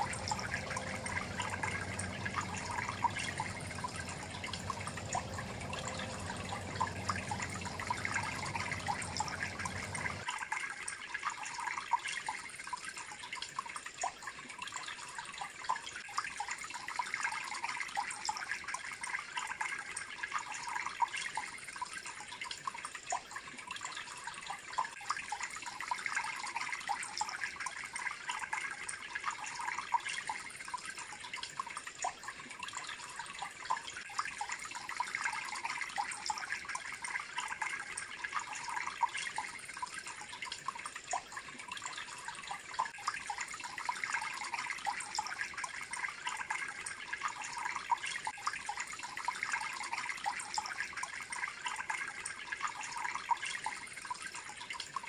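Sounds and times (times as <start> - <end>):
fountain water trickling and splashing: 0.0 - 55.0.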